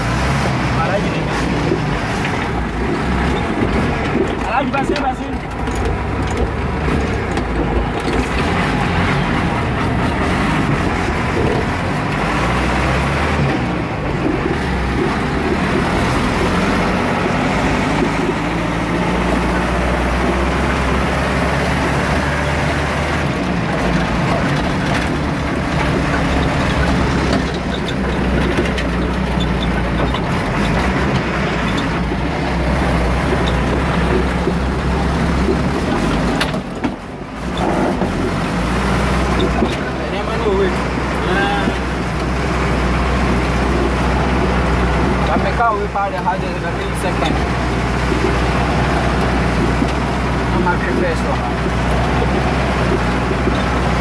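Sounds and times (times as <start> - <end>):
truck engine droning: 0.0 - 54.0.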